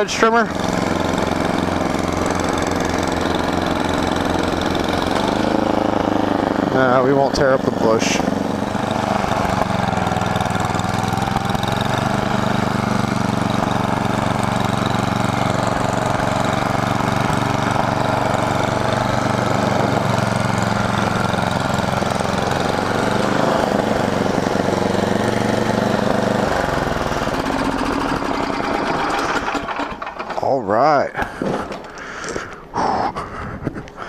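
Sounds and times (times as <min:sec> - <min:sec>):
snowblower engine running: 0:00.0 - 0:34.0.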